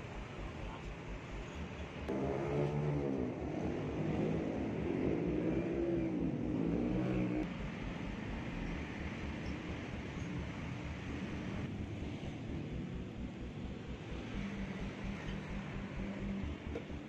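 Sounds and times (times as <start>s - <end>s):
vehicle engine running: 0.0s - 17.0s
low rumble: 0.1s - 17.0s.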